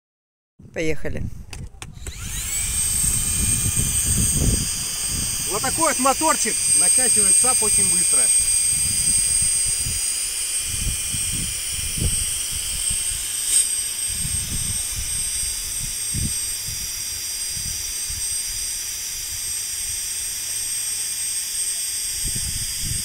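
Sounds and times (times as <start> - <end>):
electric air pump whine: 1.8 - 23.0
air hissing: 2.0 - 23.0.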